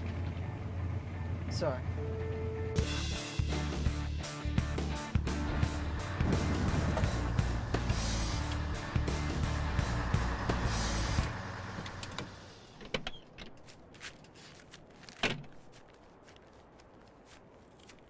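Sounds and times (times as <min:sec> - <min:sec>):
truck engine rumbling: 0:00.0 - 0:15.8.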